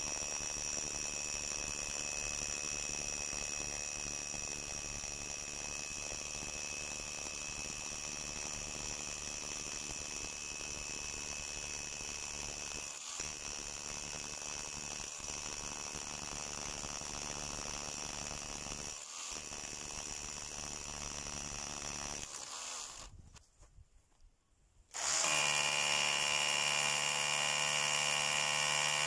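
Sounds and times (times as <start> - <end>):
hammer drill boring through brick: 0.0 - 23.1, 24.9 - 29.0.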